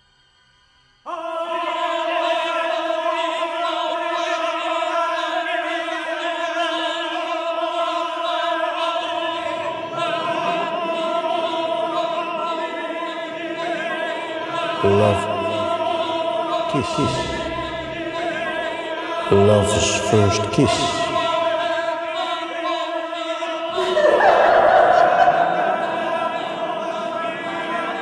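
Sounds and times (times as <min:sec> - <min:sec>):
operatic singing: 0:01.1 - 0:28.0.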